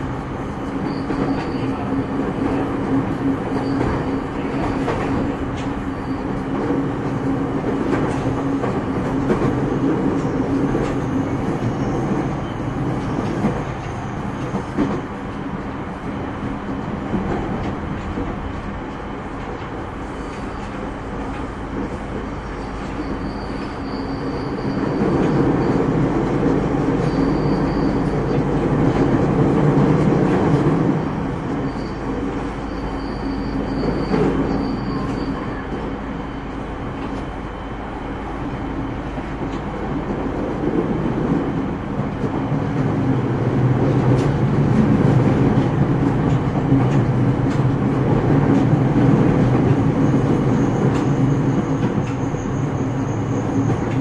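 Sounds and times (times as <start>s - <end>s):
train car rumble: 0.0s - 54.0s
train wheels on rails: 0.0s - 54.0s.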